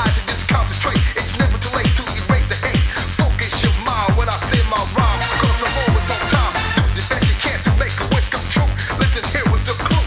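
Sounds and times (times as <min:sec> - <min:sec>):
driving kick drum beat: 0:00.0 - 0:10.0
electronic dance music: 0:00.0 - 0:10.0.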